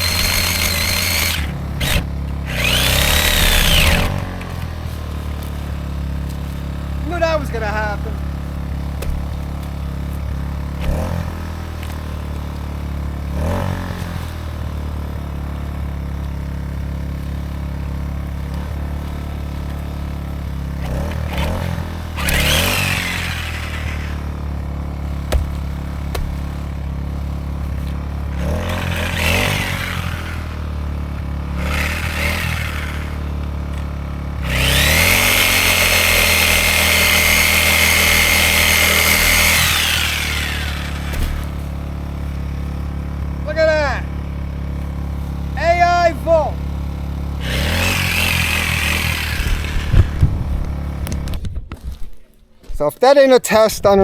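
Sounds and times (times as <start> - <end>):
reciprocating saw cutting: 0.0 - 51.3
generator engine running: 0.0 - 51.4.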